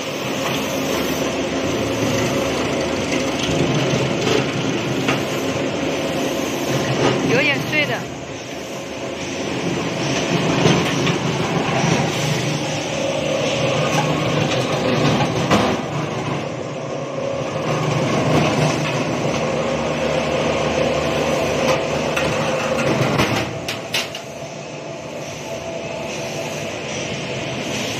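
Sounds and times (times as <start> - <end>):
slicing machine hum and rattle: 0.0 - 27.9.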